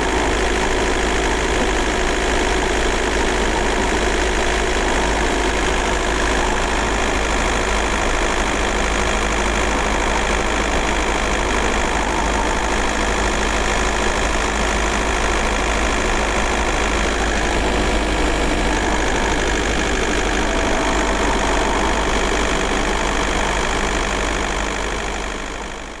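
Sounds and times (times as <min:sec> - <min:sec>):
diesel engine clattering: 0:00.0 - 0:26.0.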